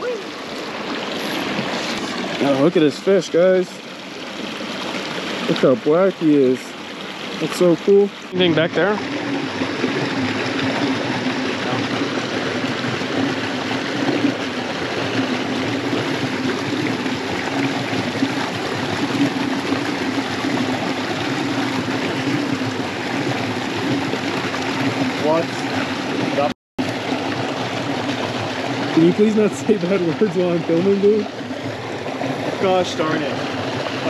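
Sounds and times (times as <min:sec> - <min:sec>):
creek water flowing: 0:00.0 - 0:34.0.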